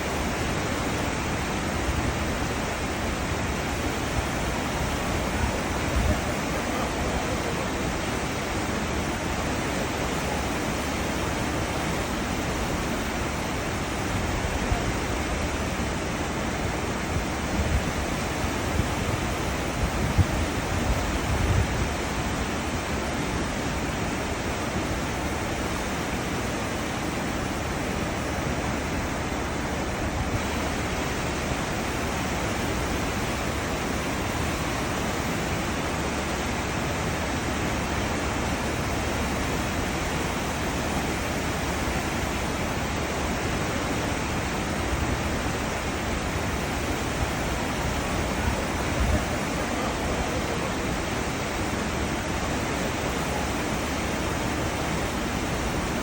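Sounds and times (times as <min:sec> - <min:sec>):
rush of foaming water: 0:00.0 - 0:56.0.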